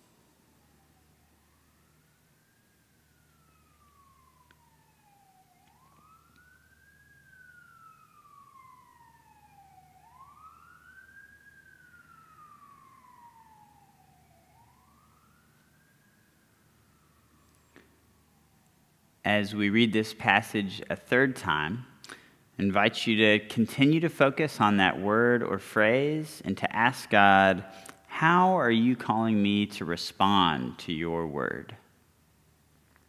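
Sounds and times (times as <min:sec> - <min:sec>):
faint siren wailing: 0:00.0 - 0:32.8.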